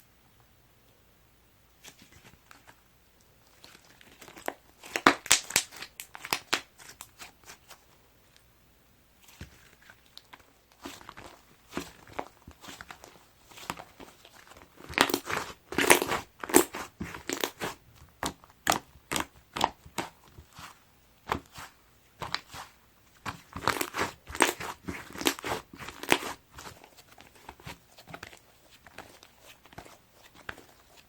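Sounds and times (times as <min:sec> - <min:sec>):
slime crackling and popping: 0:03.6 - 0:07.6, 0:09.5 - 0:20.7, 0:21.3 - 0:31.0.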